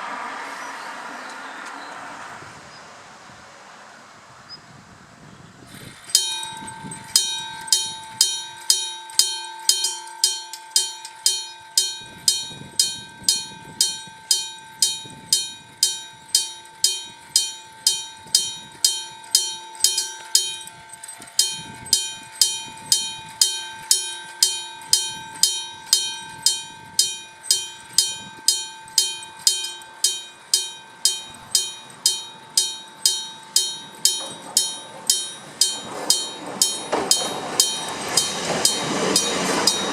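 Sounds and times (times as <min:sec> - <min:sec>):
electric alarm bell striking: 0:05.7 - 0:39.9.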